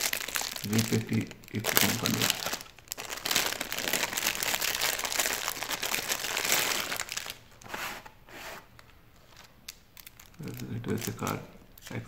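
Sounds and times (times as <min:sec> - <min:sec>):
plastic bag crinkling: 0:00.0 - 0:07.7, 0:09.2 - 0:12.0.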